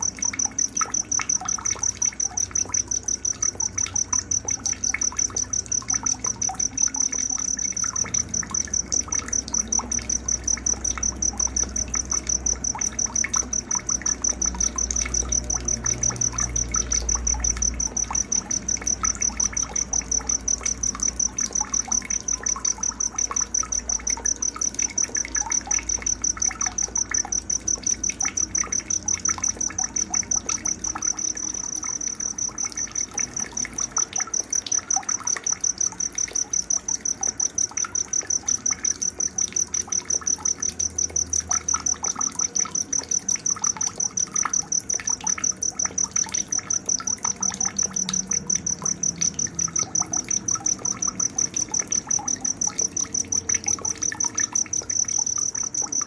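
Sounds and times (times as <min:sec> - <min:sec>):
cricket chirping trill: 0:00.0 - 0:56.0.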